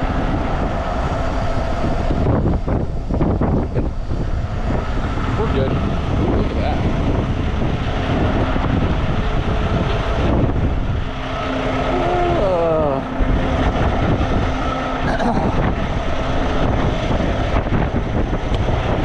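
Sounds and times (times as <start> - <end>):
falling whine: 0.0 - 19.0
truck engine running: 0.0 - 19.0
wind noise on microphone: 0.0 - 19.0.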